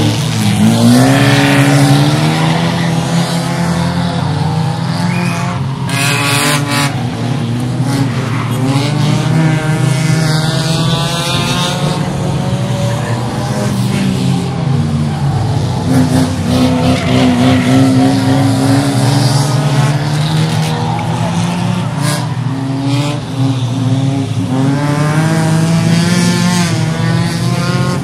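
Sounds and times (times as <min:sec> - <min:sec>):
racing car engines: 0:00.0 - 0:28.0.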